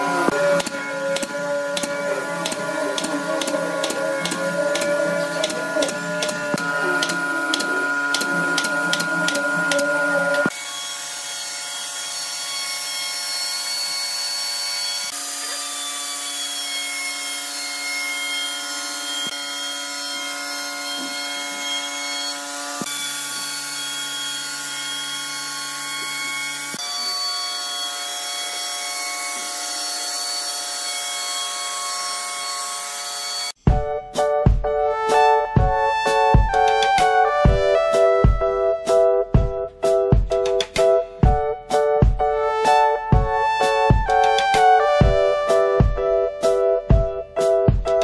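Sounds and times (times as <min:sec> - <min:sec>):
electric router whining: 0:00.0 - 0:33.6, 0:35.2 - 0:39.0, 0:42.7 - 0:48.0.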